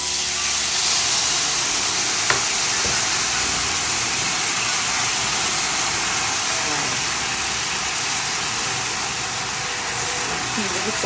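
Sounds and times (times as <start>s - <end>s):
liquid sizzling in hot oil: 0.0s - 11.0s.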